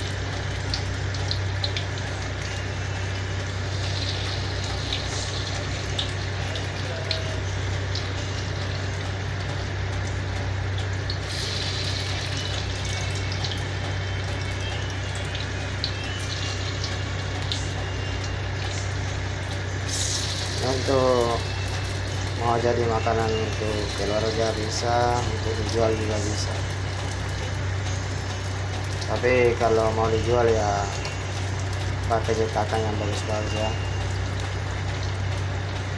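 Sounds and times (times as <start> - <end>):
batter sizzling in hot oil: 0.0 - 35.9
steady low hum: 0.0 - 35.9.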